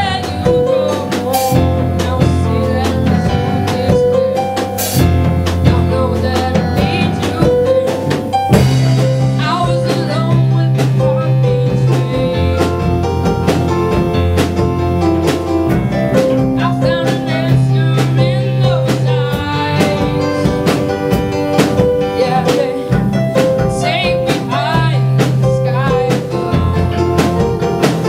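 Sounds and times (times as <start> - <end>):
person singing with vibrato: 0.0 - 14.5, 16.1 - 28.0
bass guitar: 0.0 - 28.0
drum kit steady beat: 0.0 - 28.0
guitar: 0.0 - 28.0.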